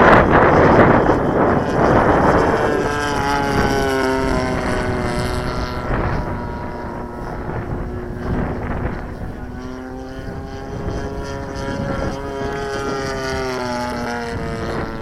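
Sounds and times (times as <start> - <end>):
model airplane engine droning: 0.0 - 15.0
wind buffeting microphone: 0.0 - 15.0.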